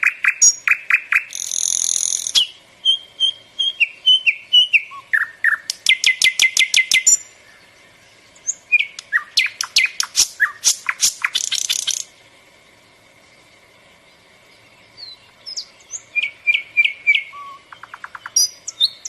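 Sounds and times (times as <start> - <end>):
nightingale singing: 0.0 - 12.2, 12.8 - 19.0.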